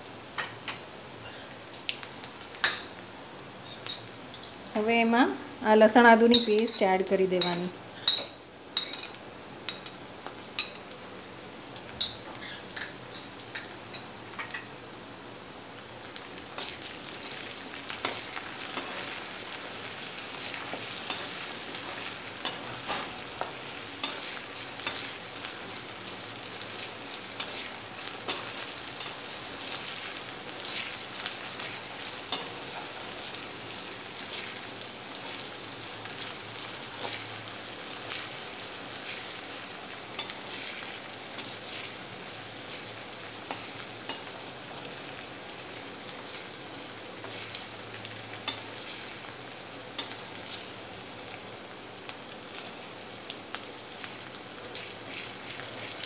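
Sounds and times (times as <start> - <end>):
onion sizzling in hot oil: 0.0 - 56.0.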